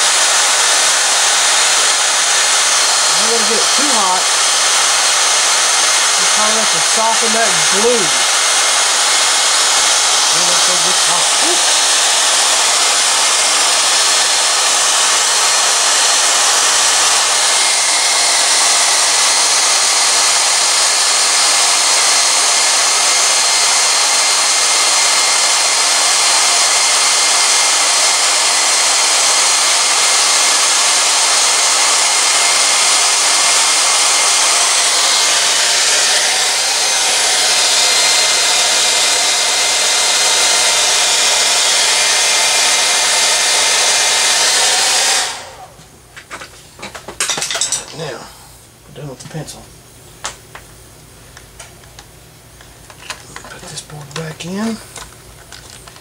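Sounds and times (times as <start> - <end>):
hair dryer running: 0.0 - 49.6, 50.2 - 56.0.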